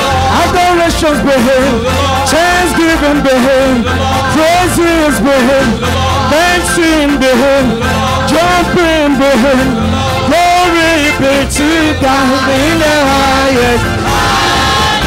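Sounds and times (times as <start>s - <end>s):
band accompaniment: 0.0s - 15.0s
voices singing gospel song: 0.0s - 15.0s.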